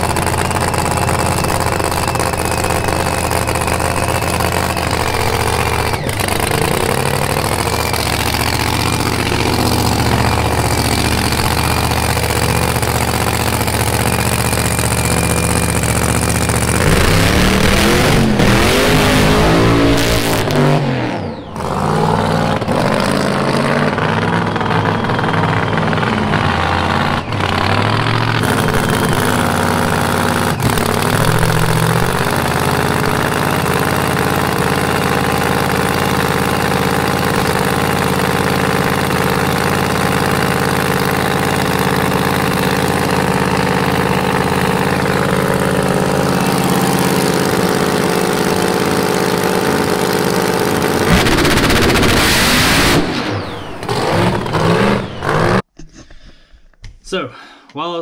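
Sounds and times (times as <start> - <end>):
race car engine revving and idling: 0.0 - 55.7.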